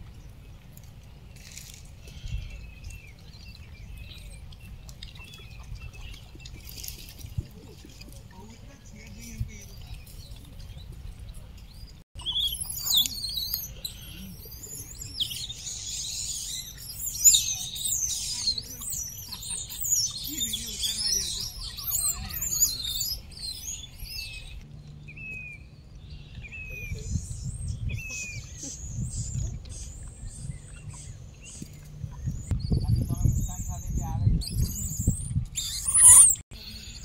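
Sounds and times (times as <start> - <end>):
small birds chirping and twittering: 0.0 - 37.0.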